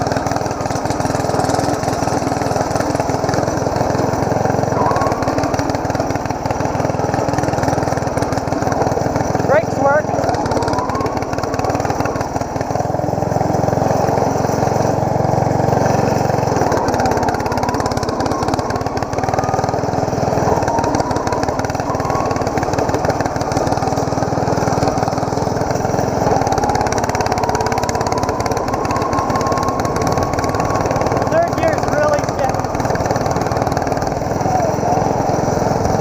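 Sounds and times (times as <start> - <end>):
lawn tractor engine running: 0.0 - 36.0.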